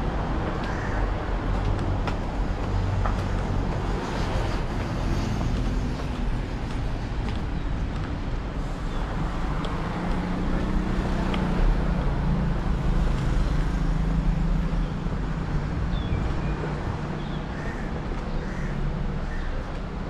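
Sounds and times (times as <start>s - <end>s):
general traffic noise: 0.0s - 20.0s.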